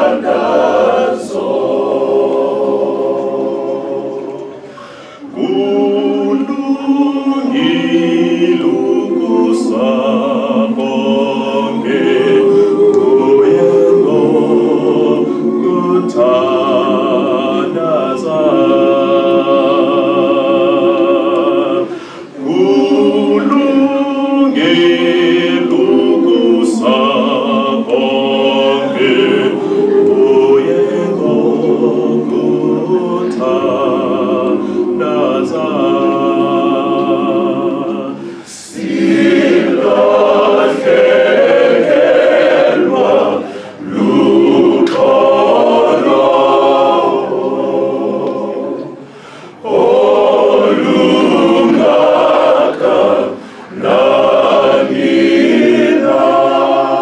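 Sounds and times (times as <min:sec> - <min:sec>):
men's choir singing a cappella: 0:00.0 - 0:57.0.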